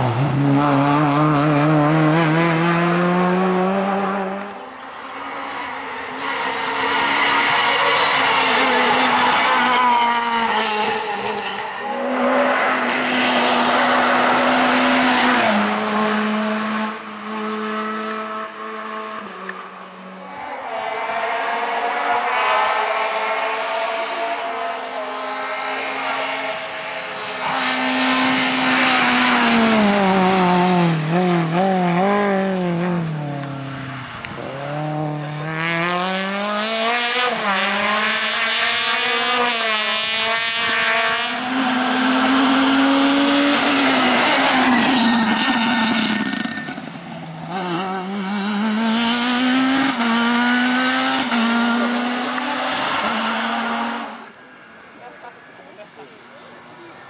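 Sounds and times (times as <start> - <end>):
rally car engine accelerating: 0.0 - 4.8, 6.2 - 54.4
second rally car accelerating: 0.0 - 55.0.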